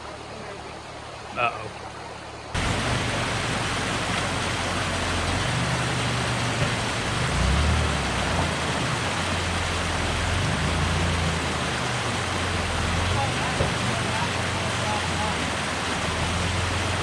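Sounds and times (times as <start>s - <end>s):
truck engine running at low revs: 2.5s - 17.0s.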